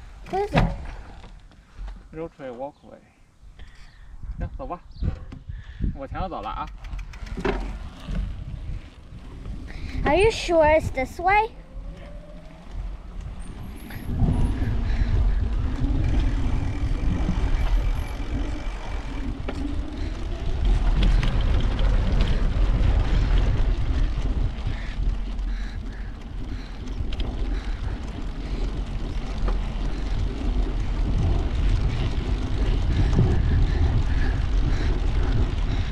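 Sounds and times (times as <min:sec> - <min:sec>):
bicycle tyres on pavement: 0:00.0 - 0:35.9
wind buffeting microphone: 0:03.4 - 0:35.9.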